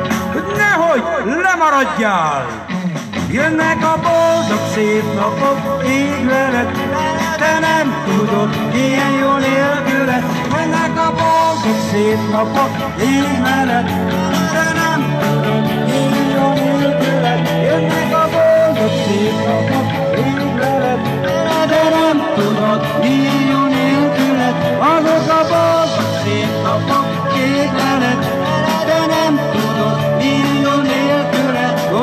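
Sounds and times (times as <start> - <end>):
bass notes: 0.0 - 0.6, 2.5 - 32.0
drum kit beat: 0.0 - 1.4, 2.3 - 32.0
live band playing pop song: 0.0 - 32.0
lead melody line: 2.6 - 32.0.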